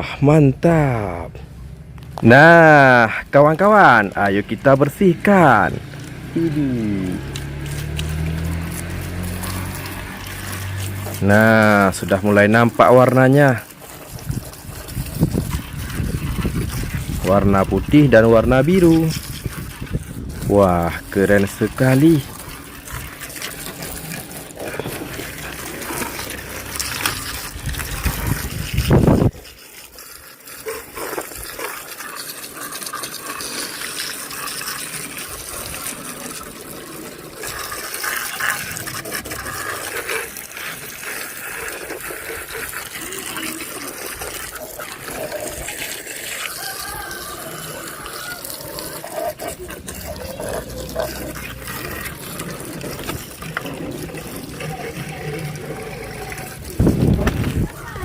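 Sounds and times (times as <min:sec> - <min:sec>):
running water splashing: 0:00.8 - 0:58.0.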